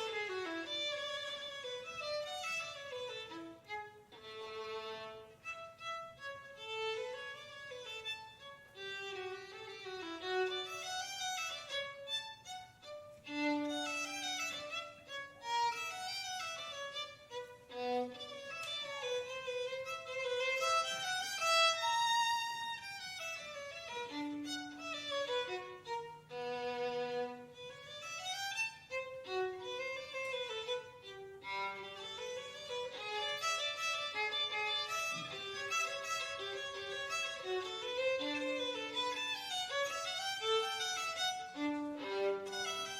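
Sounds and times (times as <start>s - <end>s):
violin melody: 0.0s - 42.9s.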